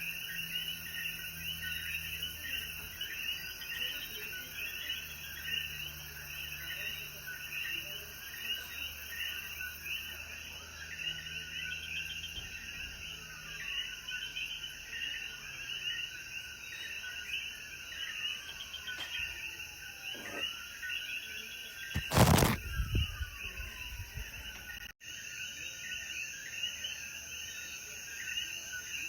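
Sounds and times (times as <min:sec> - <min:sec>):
frogs chirping: 0:00.0 - 0:29.0.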